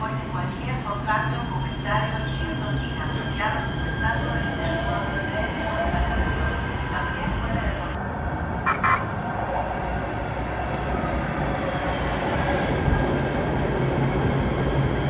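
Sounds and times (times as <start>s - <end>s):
rail train rumbling: 0.0s - 15.0s.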